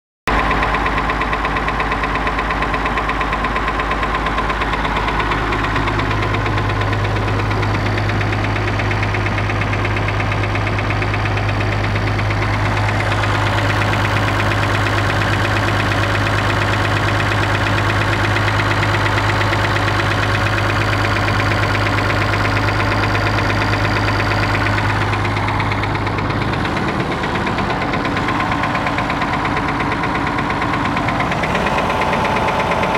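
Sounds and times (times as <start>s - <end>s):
diesel engine running with knock: 0.3s - 32.9s.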